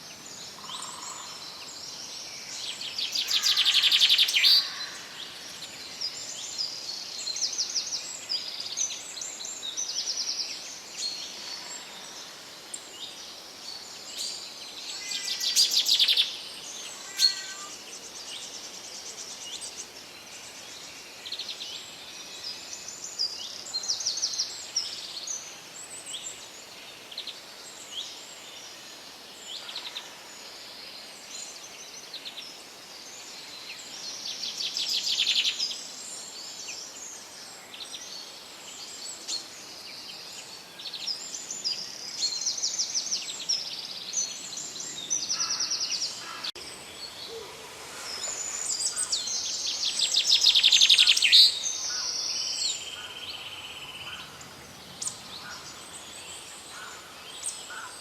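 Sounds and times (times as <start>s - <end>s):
faint steady hiss: 0.0s - 58.0s
songbirds singing and trilling: 0.0s - 58.0s.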